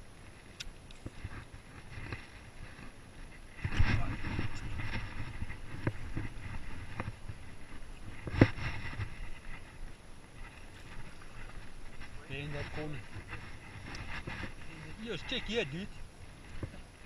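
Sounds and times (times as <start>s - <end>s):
clothing rustling on camera: 0.3s - 17.0s.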